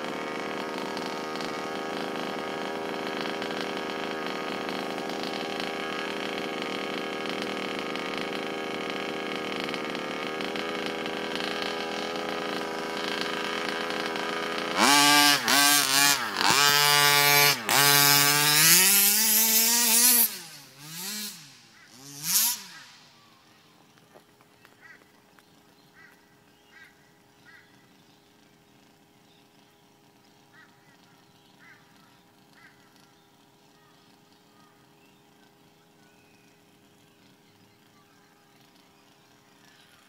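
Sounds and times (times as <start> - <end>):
small two-stroke engine revving: 0.0 - 40.0.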